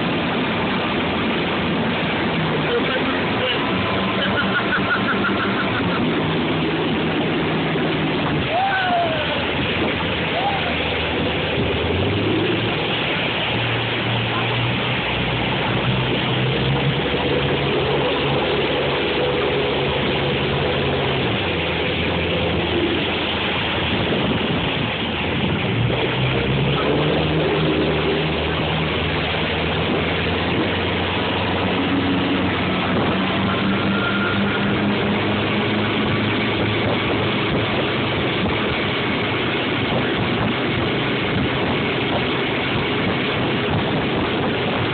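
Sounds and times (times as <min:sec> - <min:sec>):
boat wake rushing: 0:00.0 - 0:44.9
motorboat engine running: 0:00.0 - 0:44.9.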